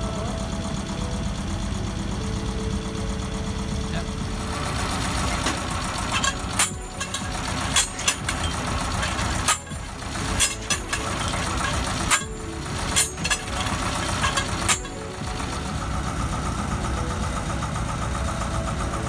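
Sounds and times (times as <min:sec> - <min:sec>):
drilling rig engine running: 0:00.0 - 0:19.0.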